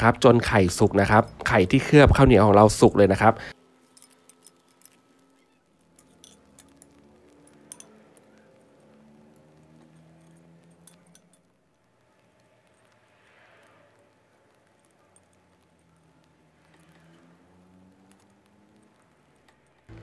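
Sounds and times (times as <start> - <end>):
food crackling on grill: 0.1 - 20.0.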